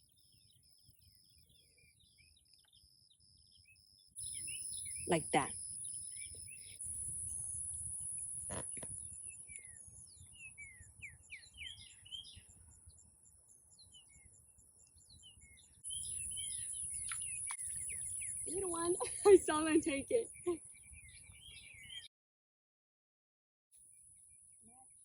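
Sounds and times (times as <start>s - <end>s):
birds chirping: 0.0s - 22.1s.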